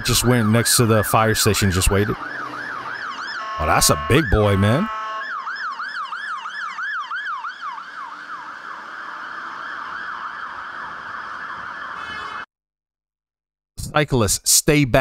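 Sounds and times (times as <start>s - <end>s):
fire engine siren yelping: 0.0s - 12.5s.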